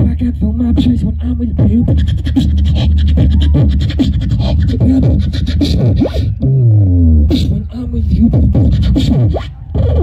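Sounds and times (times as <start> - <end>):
person beatboxing: 0.0 - 10.0.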